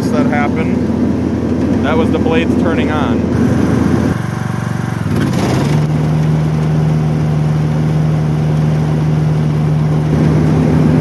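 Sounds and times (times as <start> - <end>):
riding mower engine humming: 0.0 - 11.0.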